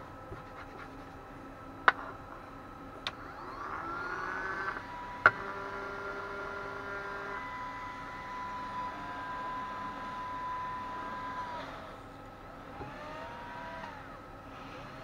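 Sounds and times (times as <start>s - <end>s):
cooling fan whine: 0.0s - 15.0s.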